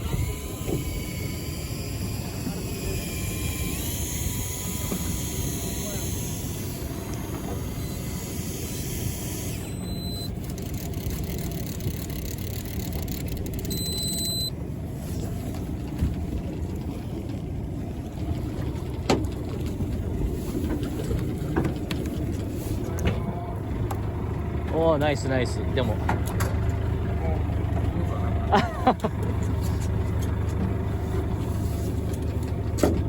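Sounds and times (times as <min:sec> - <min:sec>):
boat engine rumbling: 0:00.0 - 0:33.0.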